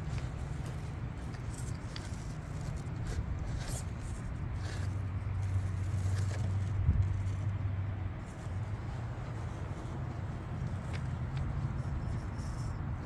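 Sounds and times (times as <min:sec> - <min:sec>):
tyres ticking and scraping: 0:00.0 - 0:13.0.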